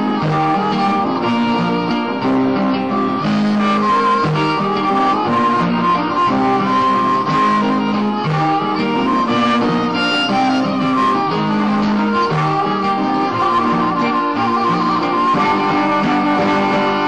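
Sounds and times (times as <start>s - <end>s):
guitars playing chords: 0.0s - 17.0s
sustained melody line: 0.0s - 17.0s.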